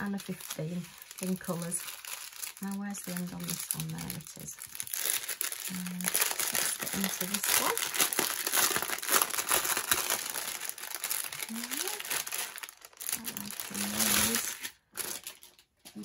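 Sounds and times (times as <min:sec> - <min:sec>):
plastic packets crinkling: 0:00.0 - 0:16.0.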